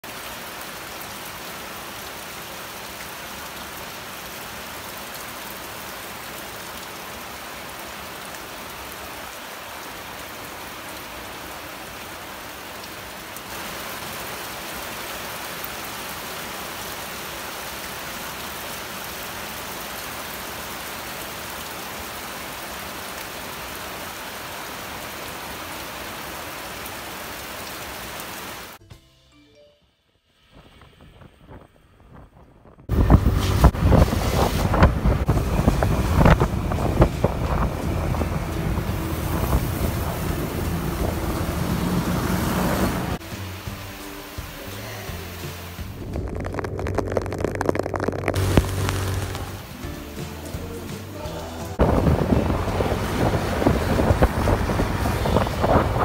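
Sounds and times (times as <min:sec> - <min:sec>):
heavy rain pouring: 0:00.0 - 0:28.8, 0:32.9 - 0:56.0.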